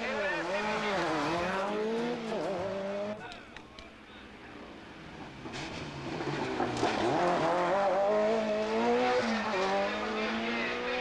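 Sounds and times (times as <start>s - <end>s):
rally car engine revving: 0.0s - 3.3s, 5.0s - 11.0s.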